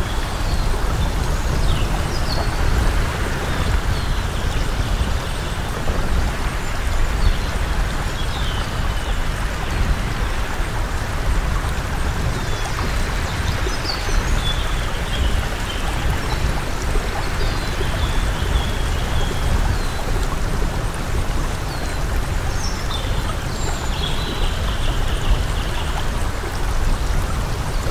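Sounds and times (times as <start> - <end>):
stream water rushing: 0.0 - 27.9.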